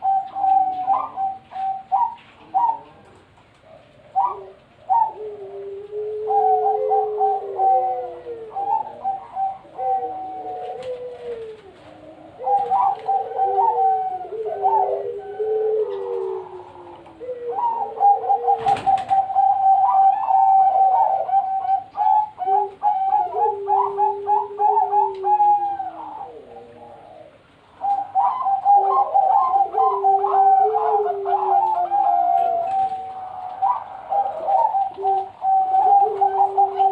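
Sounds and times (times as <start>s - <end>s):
doves cooing: 0.0s - 36.9s.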